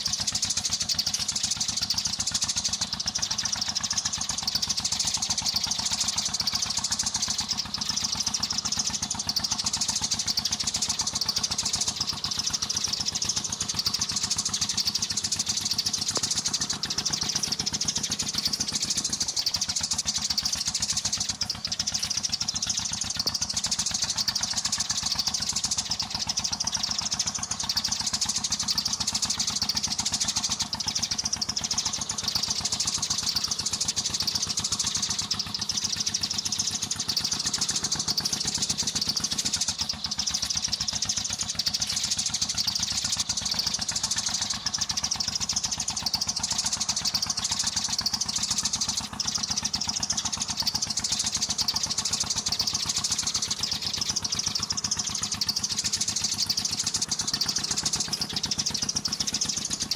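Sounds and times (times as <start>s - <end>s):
sparrows chirping and chattering: 0.0s - 59.9s.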